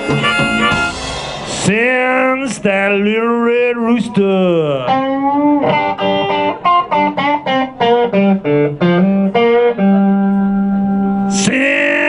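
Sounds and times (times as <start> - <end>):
blues guitar fill: 0.0 - 12.0.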